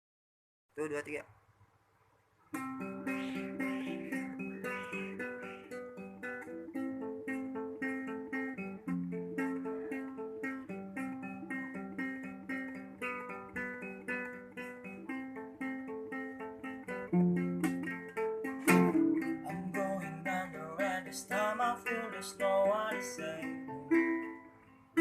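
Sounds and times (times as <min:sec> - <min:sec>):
acoustic guitar picking: 0:02.5 - 0:25.0.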